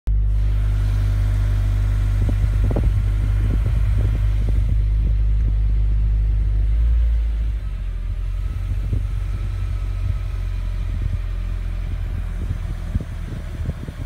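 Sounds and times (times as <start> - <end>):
car engine running: 0.1 - 14.0
high-pitched engine whine: 0.1 - 14.0.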